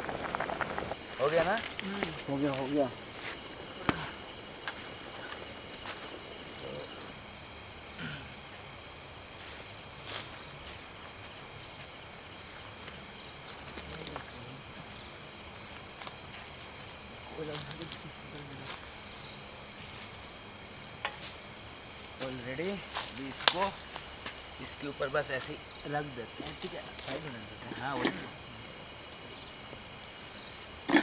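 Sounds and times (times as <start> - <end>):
cricket chirping: 0.0 - 31.0
insects buzzing: 0.0 - 31.0.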